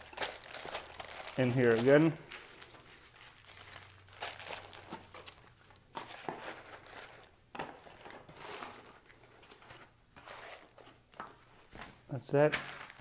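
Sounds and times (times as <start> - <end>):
plastic bags crinkling: 0.0 - 9.7, 11.6 - 13.0.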